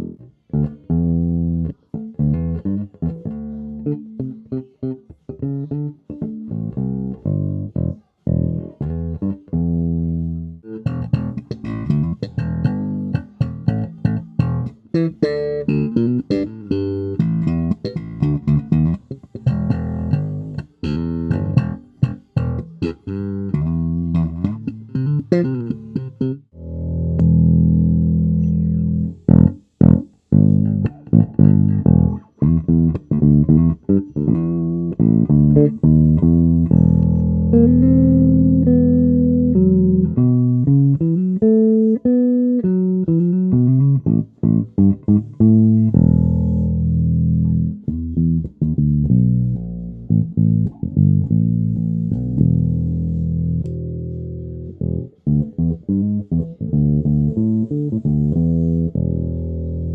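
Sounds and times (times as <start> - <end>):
electric bass playing: 0.0 - 59.9.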